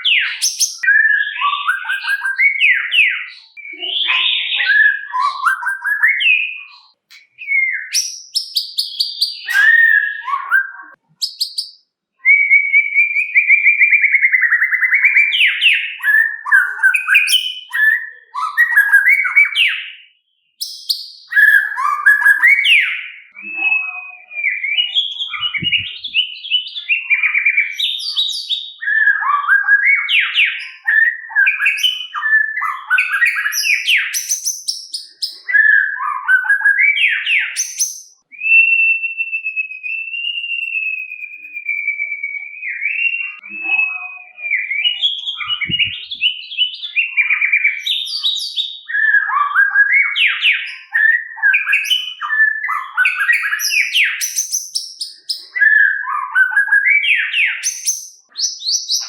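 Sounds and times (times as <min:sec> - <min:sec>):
bird singing whistled song: 0:00.0 - 0:59.0.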